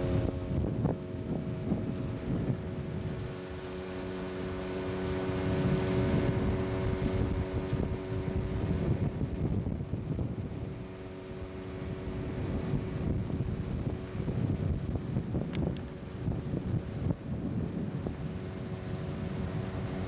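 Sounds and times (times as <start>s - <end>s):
outboard motor running: 0.0s - 20.0s
wind buffeting microphone: 0.0s - 20.0s.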